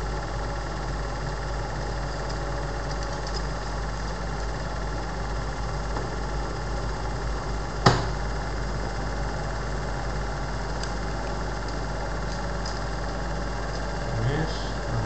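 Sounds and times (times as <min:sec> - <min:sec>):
film projector running: 0:00.0 - 0:15.0.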